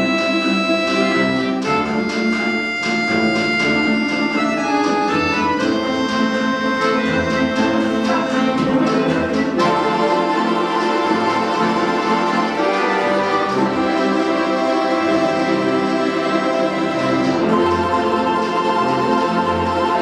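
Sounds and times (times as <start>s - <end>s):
folk instrument ensemble: 0.0s - 20.0s.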